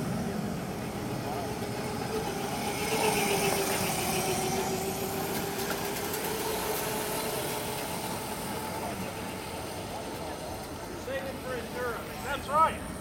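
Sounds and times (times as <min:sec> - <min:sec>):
electric scooter motor whining: 0:00.0 - 0:13.0.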